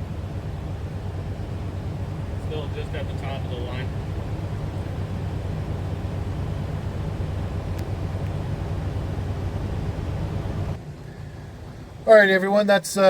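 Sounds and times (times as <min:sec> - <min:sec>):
van engine idling: 0:00.0 - 0:13.0.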